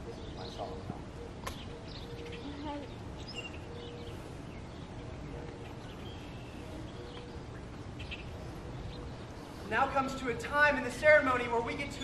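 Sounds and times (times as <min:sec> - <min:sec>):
faint bird chirps: 0:00.0 - 0:09.7.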